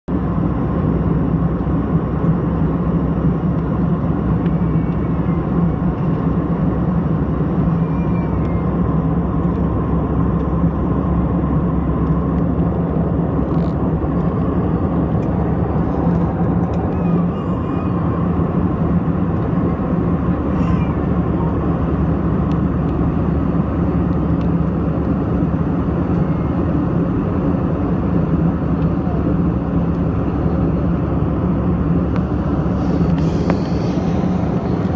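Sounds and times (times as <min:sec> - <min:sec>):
airliner cabin engine noise: 0:00.1 - 0:34.9.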